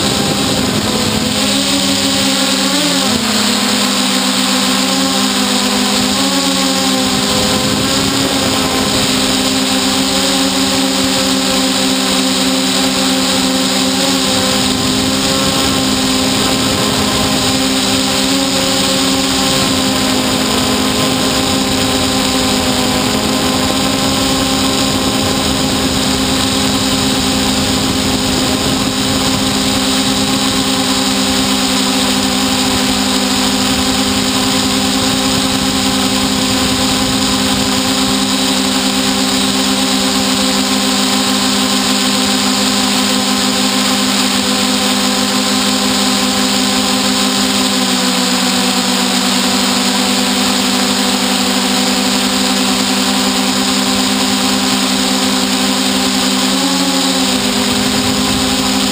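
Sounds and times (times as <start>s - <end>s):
drone motors humming: 0.0s - 58.9s.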